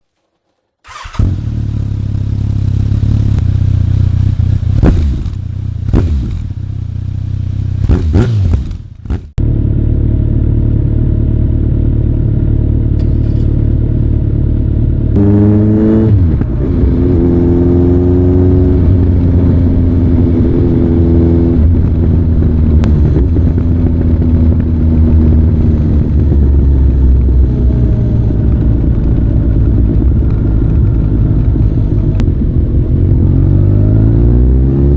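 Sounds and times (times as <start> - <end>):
motorcycle engine idling and revving: 0.8 - 34.9.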